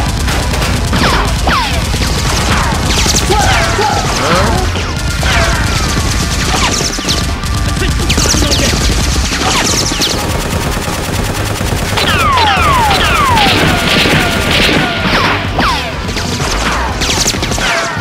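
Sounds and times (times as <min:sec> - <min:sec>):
rapid gunfire sound effects: 0:00.0 - 0:18.0.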